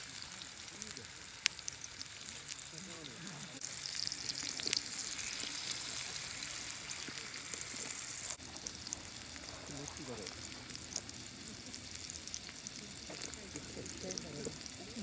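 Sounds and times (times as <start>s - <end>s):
steak sizzling in skillet: 0.0s - 15.0s.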